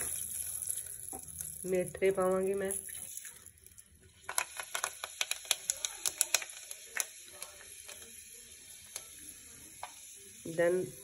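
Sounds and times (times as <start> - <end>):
seeds popping in hot oil: 0.0 - 10.6
faint oil sizzle: 0.0 - 11.0.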